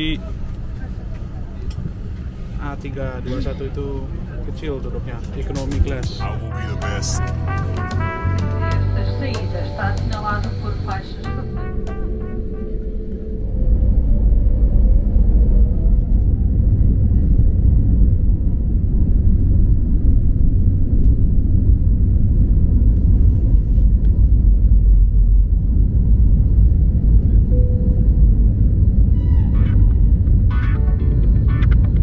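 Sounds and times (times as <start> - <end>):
jet engines deep rumble: 0.0 - 6.4, 7.4 - 32.0.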